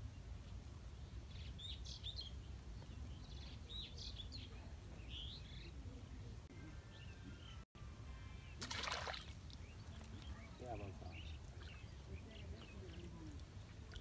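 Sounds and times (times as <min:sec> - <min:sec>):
birds chirping: 0:00.4 - 0:14.0.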